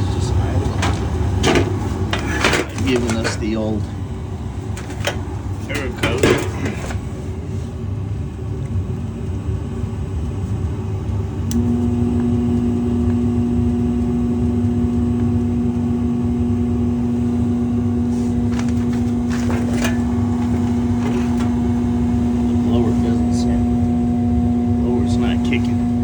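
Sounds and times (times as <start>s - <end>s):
blower motor humming: 0.0s - 26.0s
low steady rumble: 0.0s - 26.0s.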